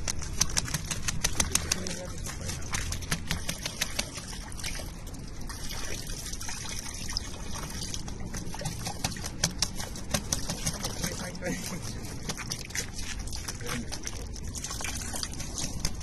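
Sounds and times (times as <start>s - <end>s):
bird wings splashing water: 0.0s - 16.0s.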